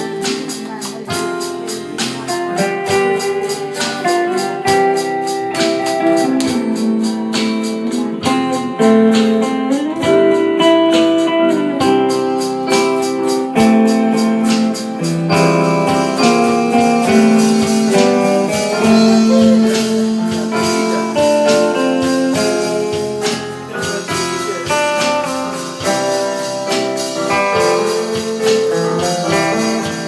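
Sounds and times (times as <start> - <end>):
instrumental band music: 0.0 - 30.0
lead guitar melody: 0.0 - 30.0.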